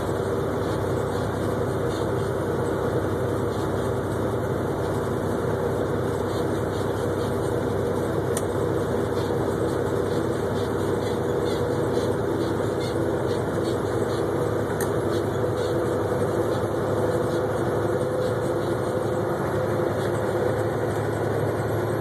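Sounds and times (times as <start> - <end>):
road and tyre noise: 0.0 - 22.0
truck diesel engine running: 0.0 - 22.0.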